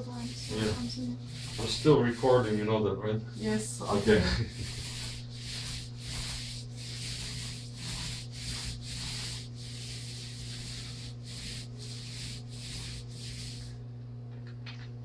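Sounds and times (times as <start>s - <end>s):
paintbrush scrubbing on plaster: 0.0s - 13.8s
low electrical hum: 0.0s - 15.0s.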